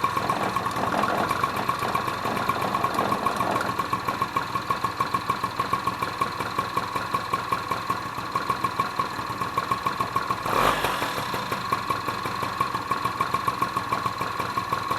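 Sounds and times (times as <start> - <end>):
scooter engine idling: 0.0 - 14.9.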